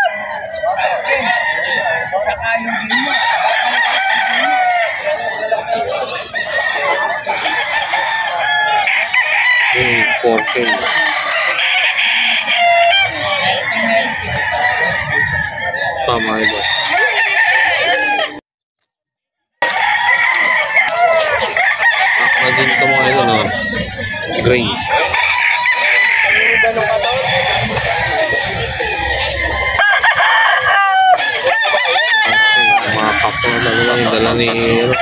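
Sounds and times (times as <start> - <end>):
chickens clucking: 0.0 - 18.4, 19.6 - 35.0
roosters crowing: 0.0 - 18.4, 19.6 - 35.0.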